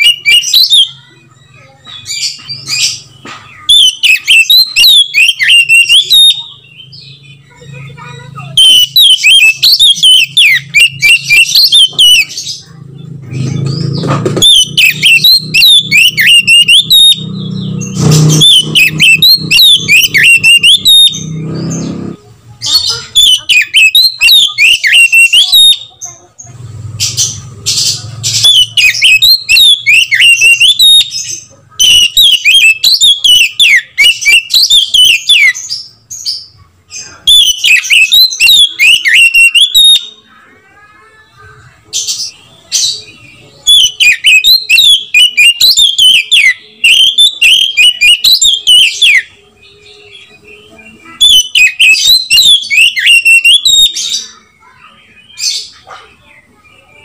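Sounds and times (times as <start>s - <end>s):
bird whistled song and trills: 0.0s - 26.2s, 27.0s - 40.3s, 42.0s - 57.0s.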